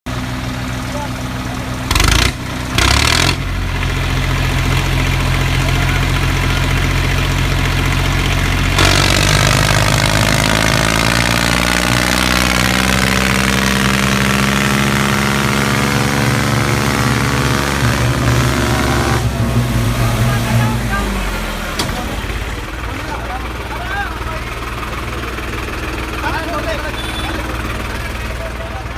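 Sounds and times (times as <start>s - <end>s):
tractor diesel engine running: 0.1s - 28.9s.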